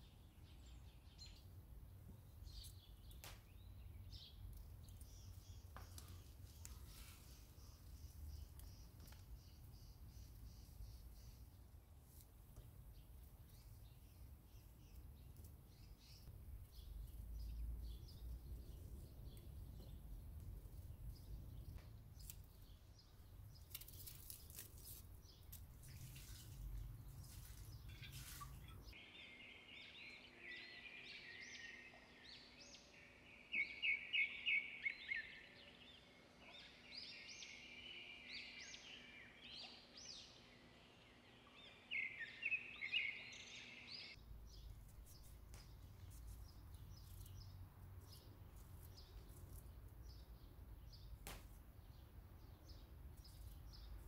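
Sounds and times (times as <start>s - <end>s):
small birds singing: 0.0s - 54.0s.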